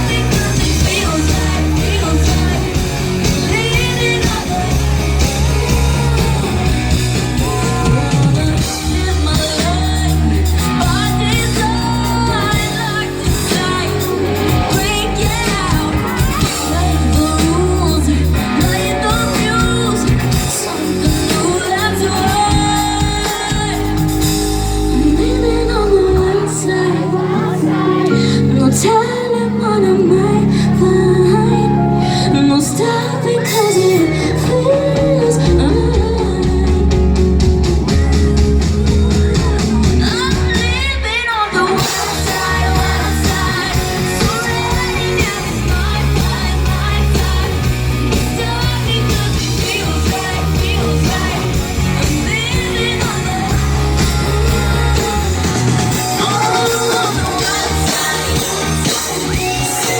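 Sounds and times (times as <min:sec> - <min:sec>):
band playing: 0:00.0 - 0:59.9
heavy bass line: 0:00.0 - 0:59.9
woman singing pop song: 0:00.0 - 0:59.9.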